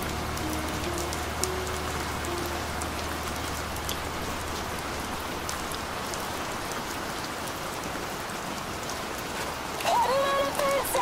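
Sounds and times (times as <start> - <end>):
raindrop ticks: 0.0 - 11.0
steady rain patter: 0.0 - 11.0.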